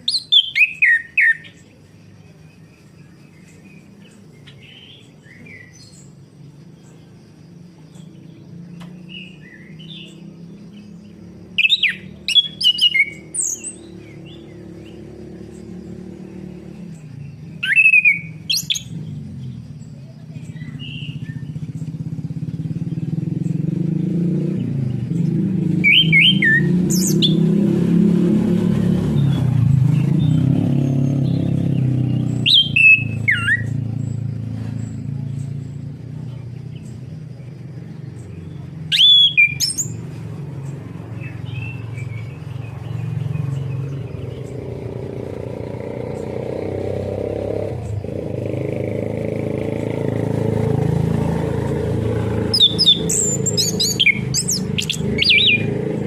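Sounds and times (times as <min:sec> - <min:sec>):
low rumble of traffic: 0:00.0 - 0:56.0
thrush whistled calls: 0:00.0 - 0:56.0.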